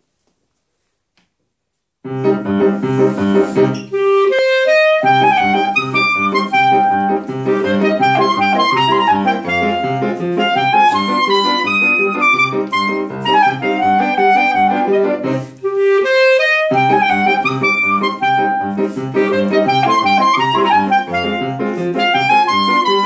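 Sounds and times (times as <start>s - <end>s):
clarinet melody: 2.0s - 23.0s
piano chords: 2.0s - 23.0s.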